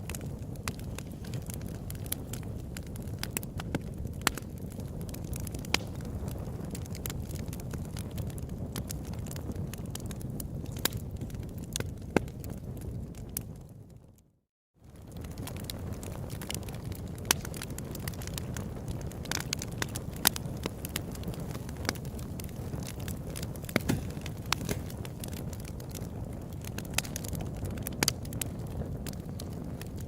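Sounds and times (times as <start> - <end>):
campfire flame rushing: 0.0 - 13.9, 14.8 - 30.0
burning wood crackling: 0.0 - 14.0, 14.8 - 30.0.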